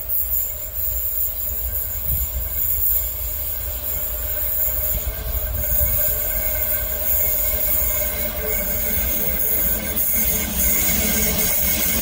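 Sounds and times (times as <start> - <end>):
faint steady whine: 0.0 - 12.0
freight train rumbling: 0.0 - 12.0.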